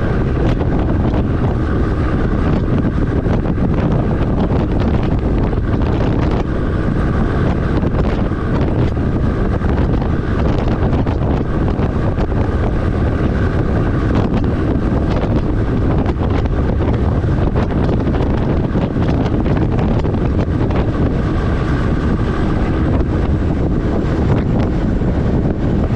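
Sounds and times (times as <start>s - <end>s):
truck driving at speed: 0.0s - 25.9s
wind buffeting microphone: 0.0s - 25.9s.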